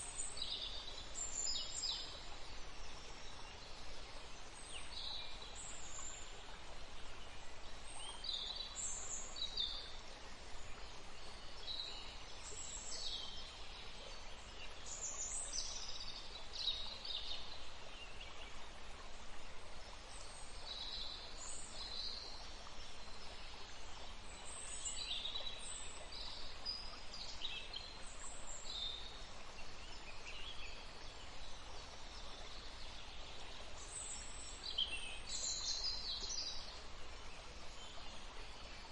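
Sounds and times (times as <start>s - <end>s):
flowing water hiss: 0.0s - 38.9s.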